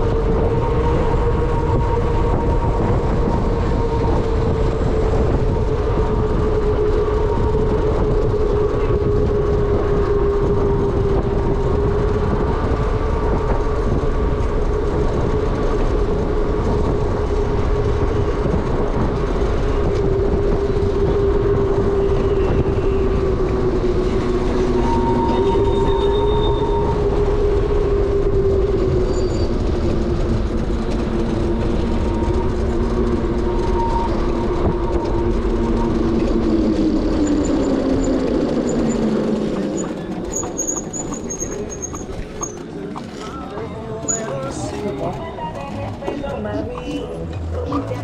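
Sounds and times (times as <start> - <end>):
wind rumbling over microphone: 0.0 - 48.0.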